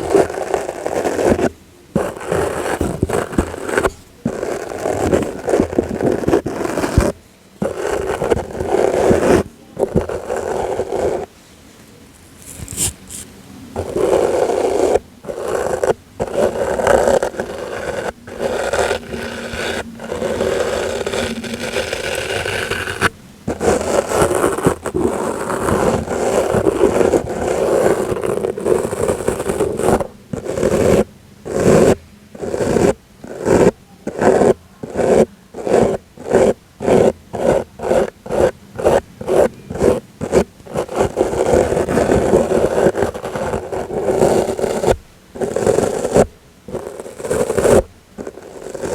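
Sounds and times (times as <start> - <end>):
scratchy brush strokes: 0.0 - 11.3, 12.1 - 48.9.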